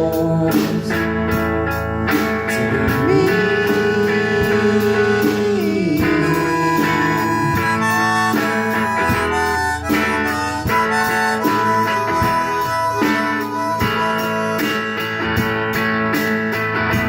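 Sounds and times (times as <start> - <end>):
strummed guitar: 0.0 - 17.0
harmonica solo: 2.5 - 17.0.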